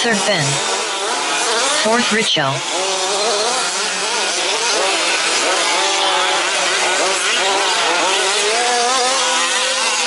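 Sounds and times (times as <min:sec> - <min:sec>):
small two-stroke engines revving: 0:00.0 - 0:10.0.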